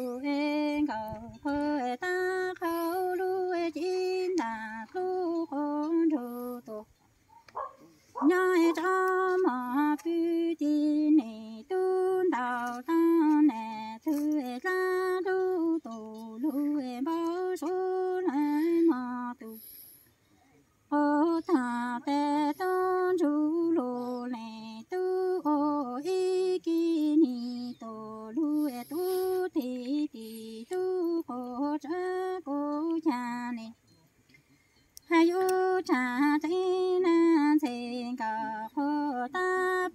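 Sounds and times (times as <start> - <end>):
woman singing unaccompanied: 0.0 - 7.0, 8.2 - 19.9, 20.8 - 34.2, 34.9 - 39.9.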